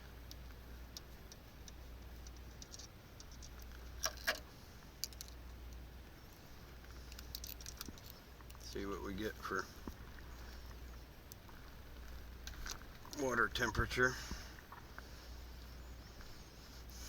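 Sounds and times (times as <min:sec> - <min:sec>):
heat pump hum: 0:00.0 - 0:17.0.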